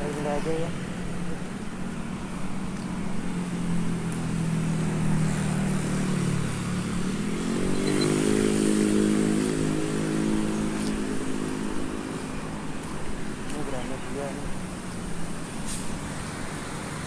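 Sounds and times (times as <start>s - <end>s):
passing traffic: 0.0s - 17.0s.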